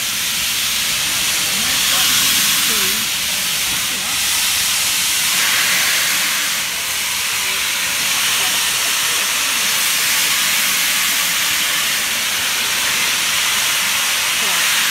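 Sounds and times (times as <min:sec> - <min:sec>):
steam hissing from locomotive: 0:00.0 - 0:14.9.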